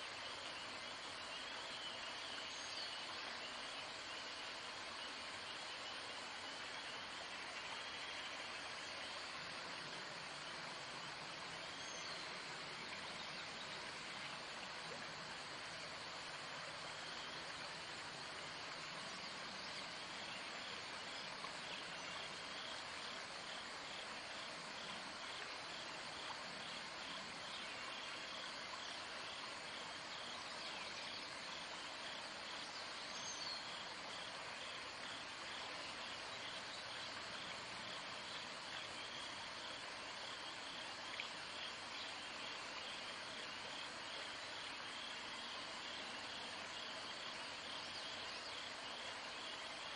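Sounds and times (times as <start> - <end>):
outdoor background hiss: 0.0 - 49.9.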